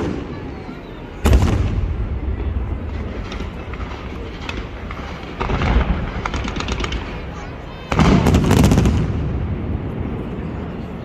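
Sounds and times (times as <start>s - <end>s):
firework bang with rolling rumble: 0.0s - 11.0s
firework crackle: 0.0s - 11.0s.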